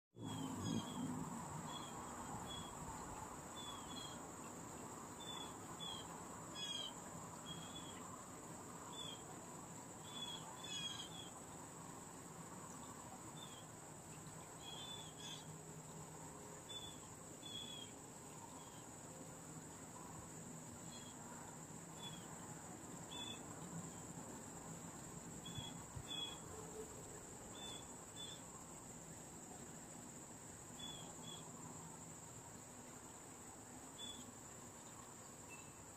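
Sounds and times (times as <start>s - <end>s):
high insect drone: 0.2s - 35.9s.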